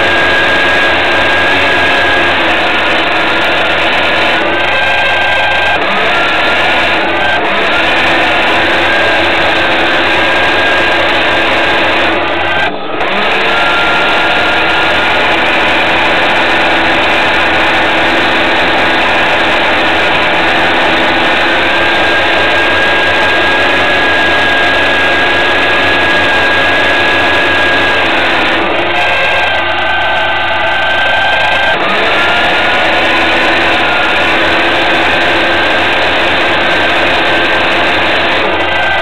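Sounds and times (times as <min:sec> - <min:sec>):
boat motor whining: 0:00.0 - 0:39.0.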